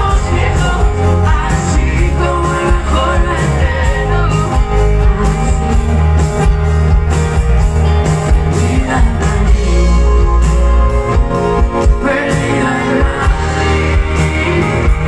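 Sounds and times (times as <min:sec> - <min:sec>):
man singing lead vocal: 0:00.0 - 0:06.5, 0:08.3 - 0:10.6, 0:11.6 - 0:15.0
drum kit beat: 0:00.0 - 0:15.0
electric bass: 0:00.0 - 0:15.0
electric guitar: 0:00.0 - 0:15.0.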